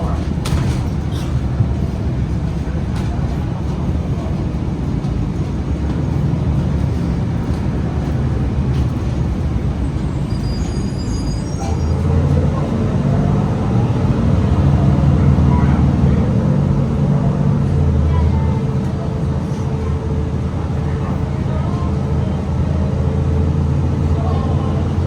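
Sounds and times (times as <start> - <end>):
bus engine and road rumble: 0.0 - 25.0.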